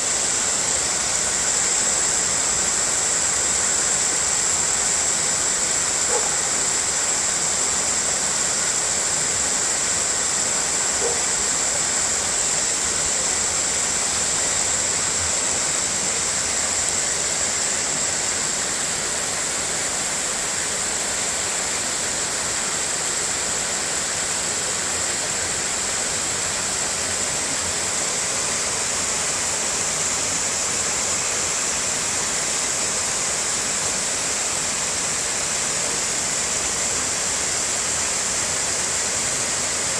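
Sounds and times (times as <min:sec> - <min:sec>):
high hiss: 0:00.0 - 0:39.9
waterfall pouring: 0:00.0 - 0:39.9.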